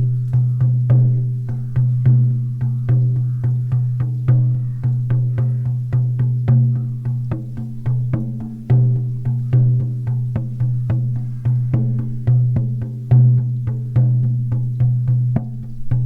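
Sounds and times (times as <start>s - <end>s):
frame drum beating: 0.0s - 16.0s.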